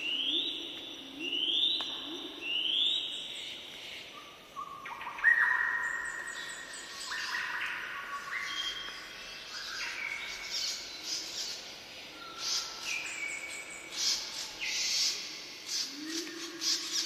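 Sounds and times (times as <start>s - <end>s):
birds singing: 0.0s - 17.0s.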